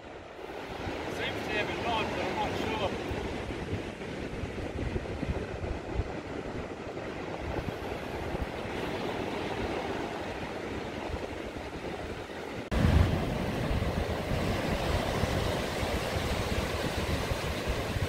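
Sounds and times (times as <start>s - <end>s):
surf washing up a beach: 0.0s - 18.0s
wind rumbling on microphone: 0.0s - 18.0s.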